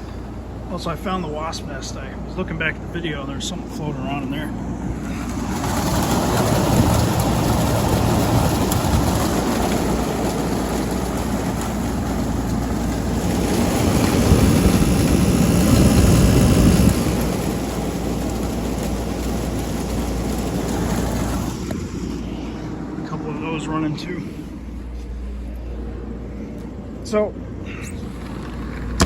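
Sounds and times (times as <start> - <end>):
paddle fan churning water: 0.0 - 24.5
air conditioner fan rushing: 0.0 - 29.0.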